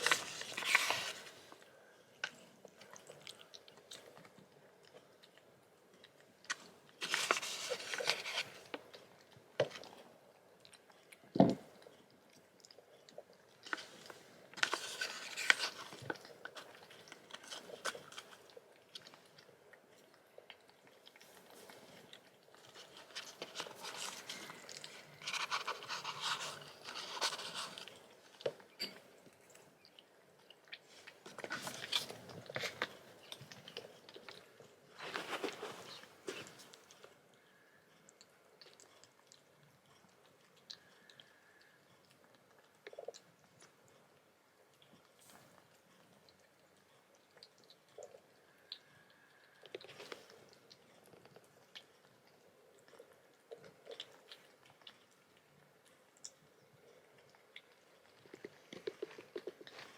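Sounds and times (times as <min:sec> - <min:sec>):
crunching and chewing: 0:00.0 - 0:59.9.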